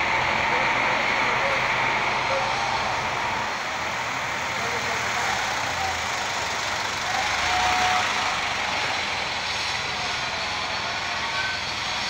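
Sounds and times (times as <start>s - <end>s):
heavy diesel truck engines: 0.0s - 12.0s.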